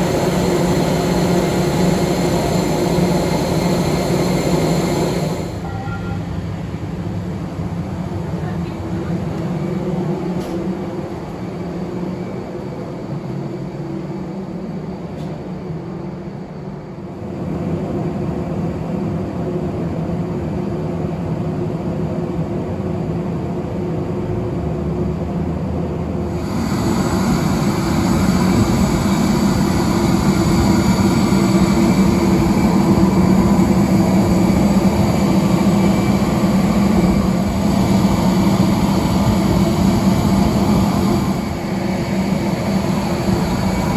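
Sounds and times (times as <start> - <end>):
jet engine rumble: 0.0 - 43.9.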